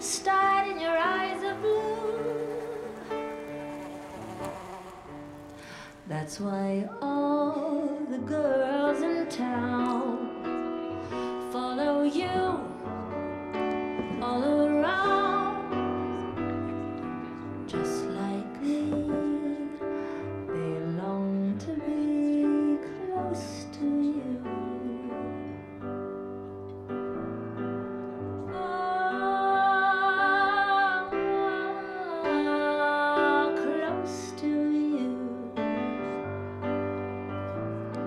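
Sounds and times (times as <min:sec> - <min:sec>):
woman singing ballad: 0:00.0 - 0:16.5, 0:17.4 - 0:25.7, 0:28.4 - 0:36.4
piano accompaniment: 0:00.0 - 0:38.0.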